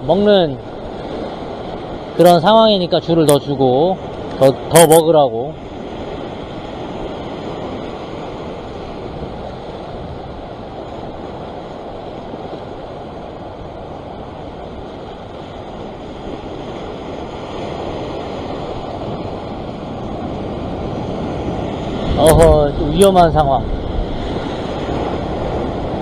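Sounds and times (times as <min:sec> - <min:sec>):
ocean surf washing on rocks: 0:00.0 - 0:26.0.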